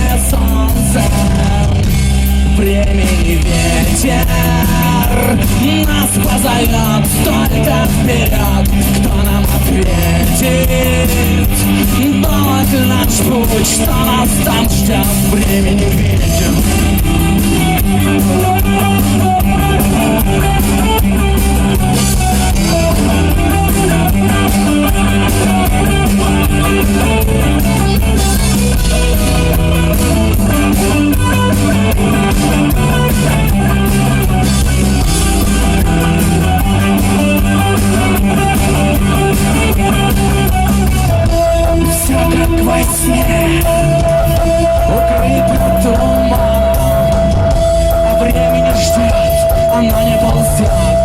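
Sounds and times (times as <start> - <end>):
drum kit: 0.0 - 51.0
rock guitar: 0.0 - 51.0.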